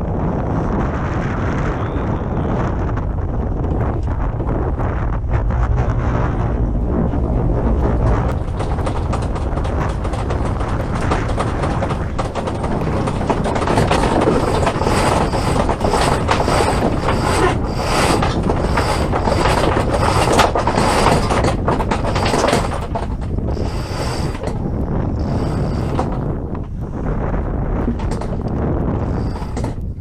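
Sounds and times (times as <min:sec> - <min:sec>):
wind rushing: 0:00.0 - 0:30.0
gear clicking and rattling: 0:02.8 - 0:30.0.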